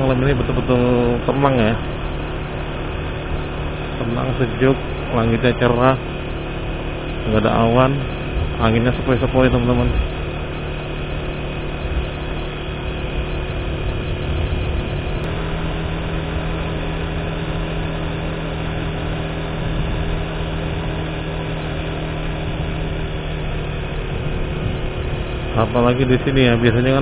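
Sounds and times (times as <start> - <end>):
road and air noise: 0.0 - 27.0
vehicle engine hum: 0.0 - 27.0.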